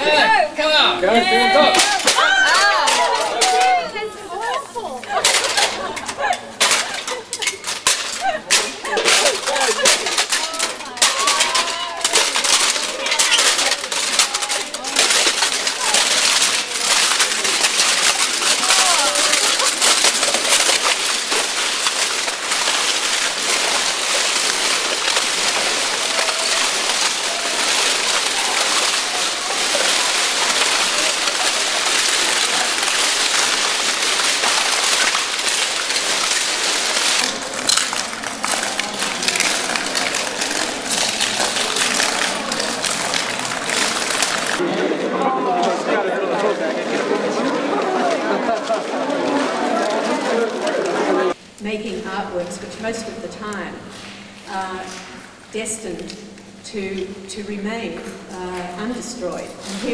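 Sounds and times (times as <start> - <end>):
tiles crunching underfoot: 1.2 - 44.6, 46.7 - 59.9.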